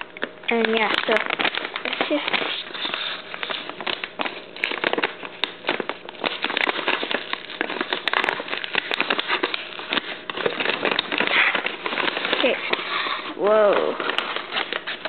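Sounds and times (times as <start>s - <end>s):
paper tear strip ripping: 0.5s - 15.0s.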